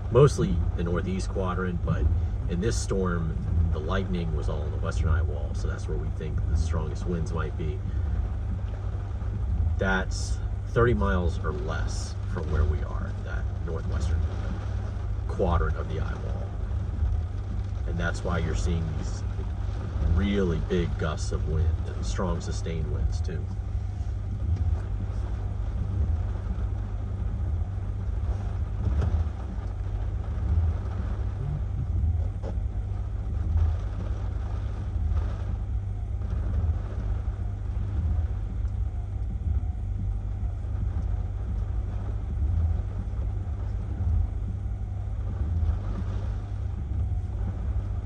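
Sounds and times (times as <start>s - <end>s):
hurricane winds gusting: 0.0s - 48.0s.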